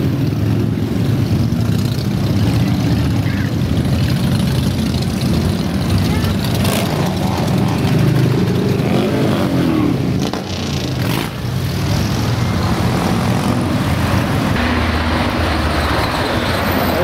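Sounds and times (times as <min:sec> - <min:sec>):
motorcycles rumbling past: 0:00.0 - 0:17.0
passing car traffic: 0:00.0 - 0:17.0.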